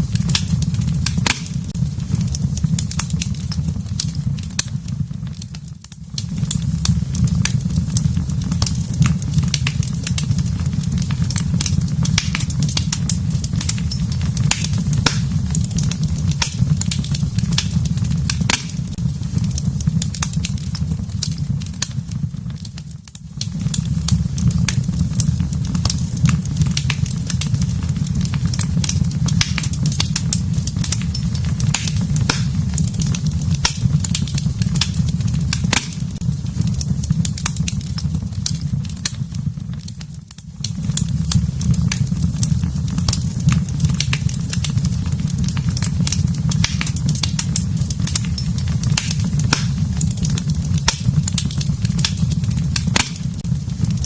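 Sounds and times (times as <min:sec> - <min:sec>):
fireplace fire crackling and popping: 0:00.0 - 0:54.0.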